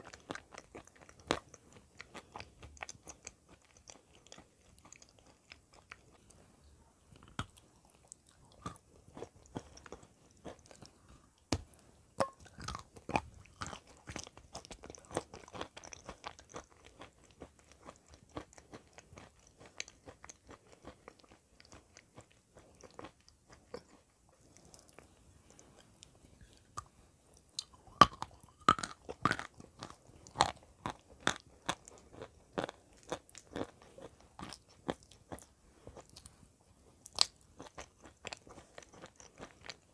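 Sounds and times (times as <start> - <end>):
crunchy chewing: 0.0 - 6.5, 7.1 - 36.4, 37.0 - 39.9.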